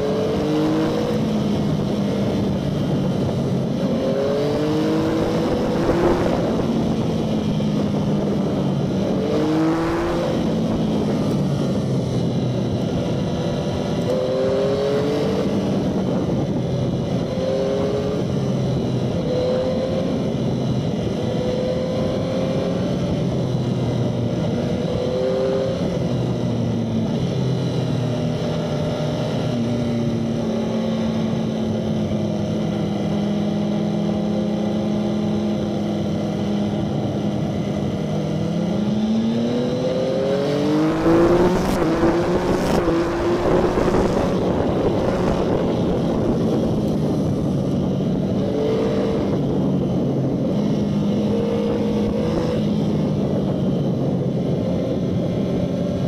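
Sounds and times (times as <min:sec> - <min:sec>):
motorcycle engine: 0:00.0 - 0:56.0
wind rush: 0:00.0 - 0:56.0.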